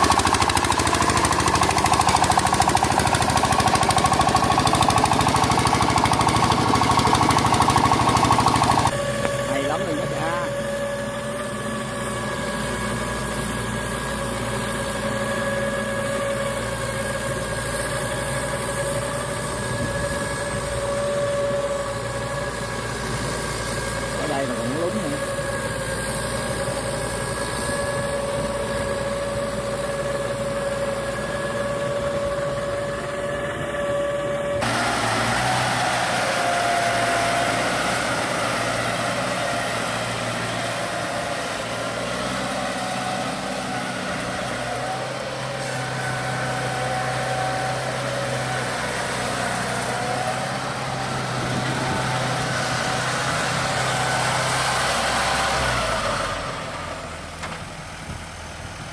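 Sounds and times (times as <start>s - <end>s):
rough low engine: 0.0s - 58.9s
tiller engine whining: 0.0s - 58.9s.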